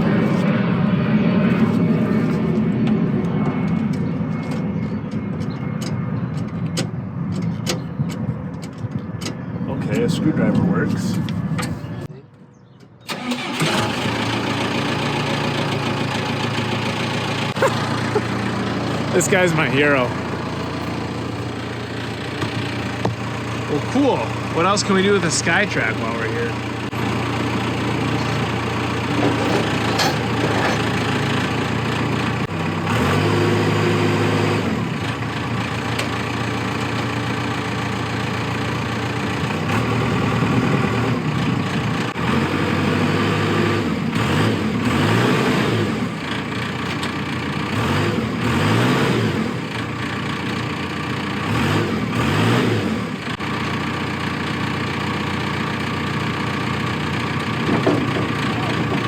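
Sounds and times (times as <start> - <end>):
diesel engine revving: 0.0 - 4.1, 13.1 - 59.0.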